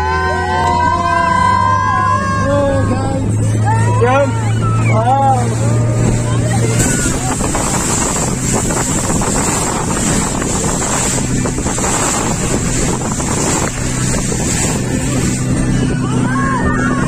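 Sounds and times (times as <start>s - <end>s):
speedboat engine running: 0.0s - 17.0s
wind buffeting microphone: 0.0s - 17.0s.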